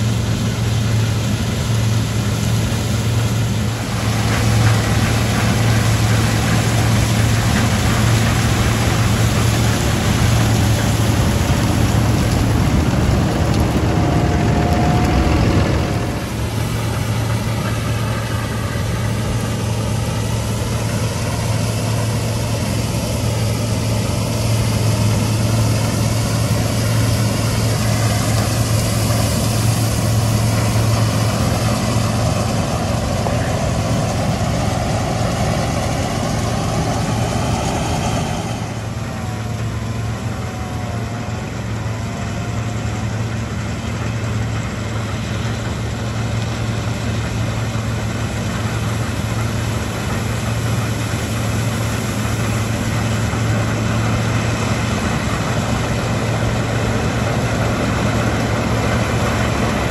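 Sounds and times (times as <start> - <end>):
broad machine noise: 0.0 - 59.9
combine harvester engine drone: 0.0 - 59.9.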